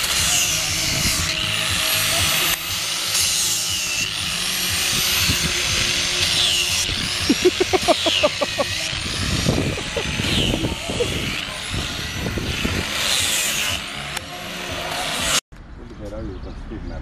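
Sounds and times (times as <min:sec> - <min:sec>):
angle grinder on wood: 0:00.0 - 0:15.4.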